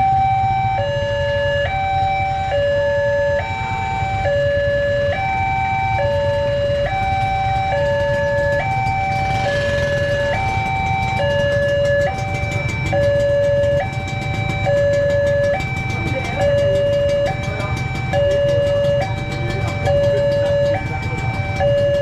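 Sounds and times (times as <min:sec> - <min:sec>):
two-tone level crossing alarm: 0:00.0 - 0:22.0.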